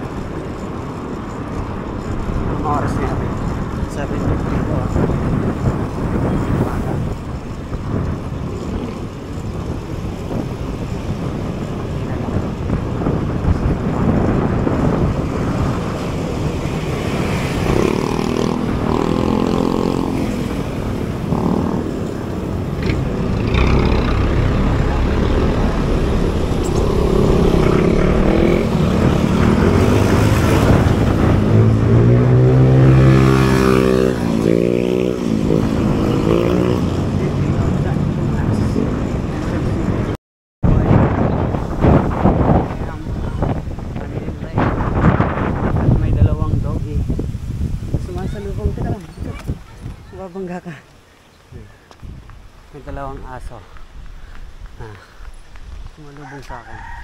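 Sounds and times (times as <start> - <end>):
passing motor vehicles: 0.0 - 57.0
wind rushing on microphone: 0.0 - 57.0.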